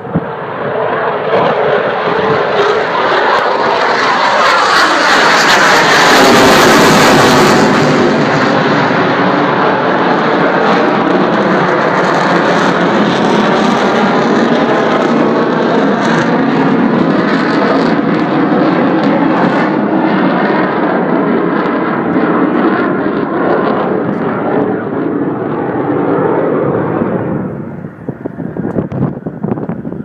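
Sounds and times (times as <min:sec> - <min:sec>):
jet flying past: 0:00.0 - 0:30.0.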